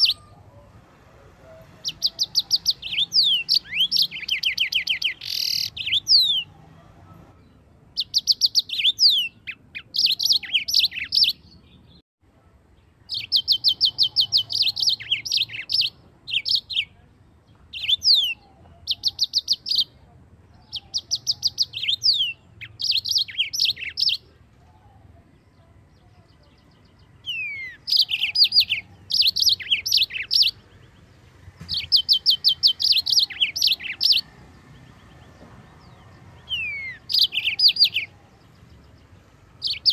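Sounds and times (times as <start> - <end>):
canary singing: 0.0 - 12.0, 12.8 - 39.9.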